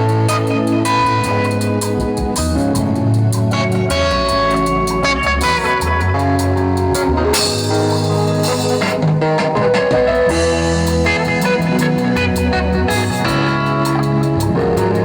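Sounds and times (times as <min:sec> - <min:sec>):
bass: 0:00.0 - 0:15.0
drum kit beat: 0:00.0 - 0:15.0
guitar: 0:00.0 - 0:15.0.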